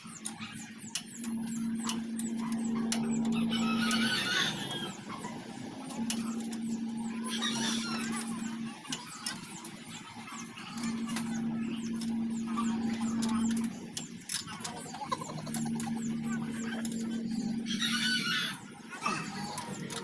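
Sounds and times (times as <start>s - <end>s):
low whine: 0.1s - 20.0s.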